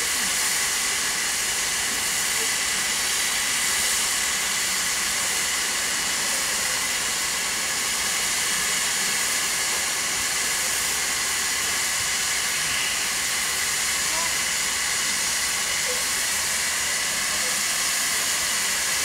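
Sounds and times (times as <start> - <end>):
steam hissing from locomotive: 0.0 - 19.0.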